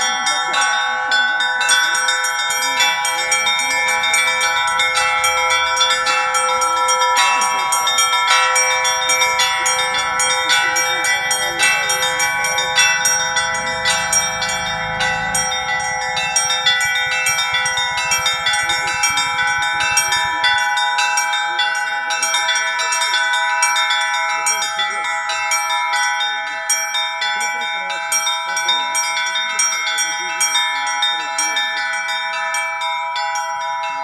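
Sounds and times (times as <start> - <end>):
large church bells ringing: 0.0 - 34.0
small church bells striking rapidly: 0.0 - 34.0.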